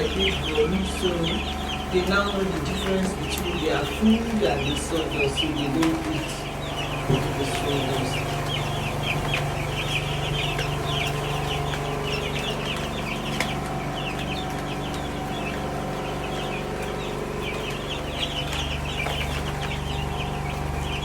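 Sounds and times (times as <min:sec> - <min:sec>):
chicks peeping: 0:00.0 - 0:21.0
steady low hum: 0:00.0 - 0:21.0.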